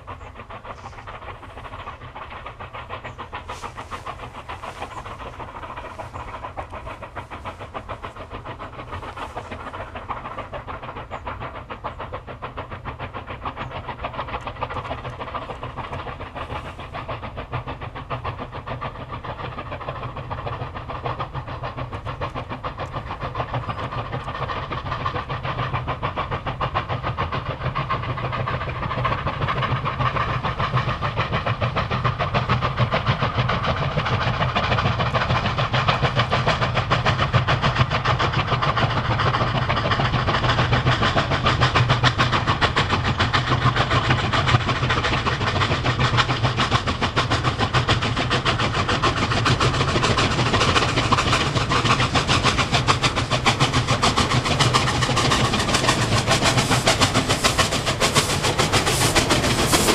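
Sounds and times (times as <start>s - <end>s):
steam locomotive exhaust chuffs: 0.0s - 59.9s.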